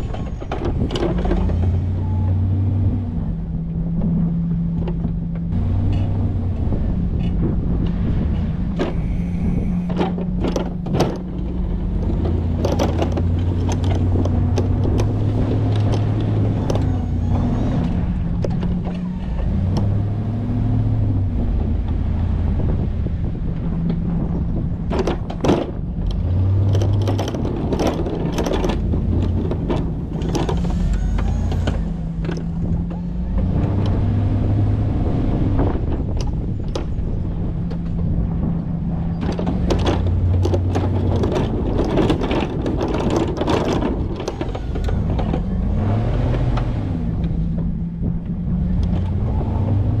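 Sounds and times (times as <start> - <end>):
knocks and rattles: 0.0 - 50.0
pickup truck engine running: 0.0 - 50.0.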